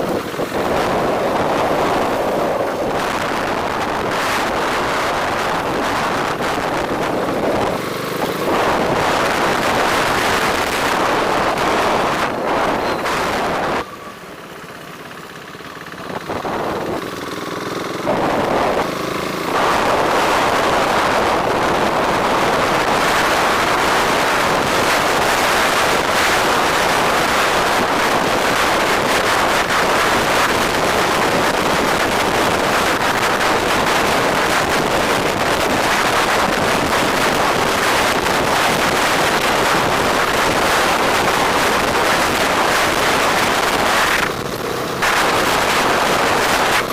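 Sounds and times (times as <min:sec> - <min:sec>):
wind rushing over microphone: 0:00.0 - 0:14.0, 0:16.0 - 0:17.3, 0:18.0 - 0:46.9
traffic or engine hum: 0:00.0 - 0:46.9.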